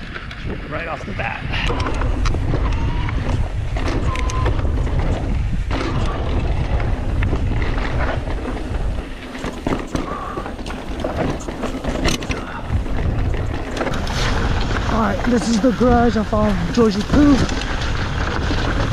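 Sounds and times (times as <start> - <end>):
bike rattling and clicking: 0.0 - 18.9
wind on microphone: 0.0 - 18.9
tyres rolling over dirt and rock: 1.8 - 18.9.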